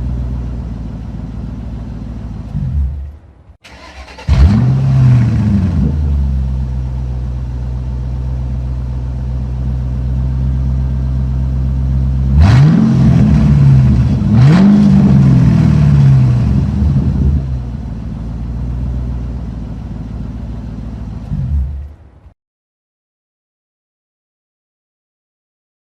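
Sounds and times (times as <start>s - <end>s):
car engine idling and revving: 0.0s - 22.3s.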